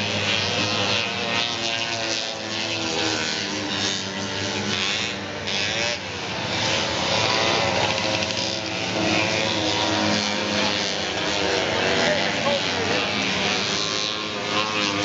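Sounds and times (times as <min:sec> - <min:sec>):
snowmobile engines revving: 0:00.0 - 0:15.0.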